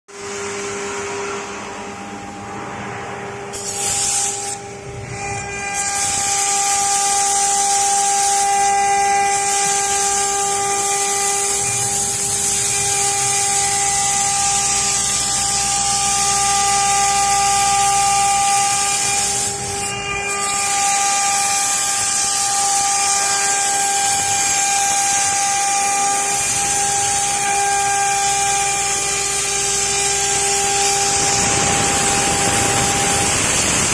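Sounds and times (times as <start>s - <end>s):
wood router cutting wood: 0.1s - 33.9s.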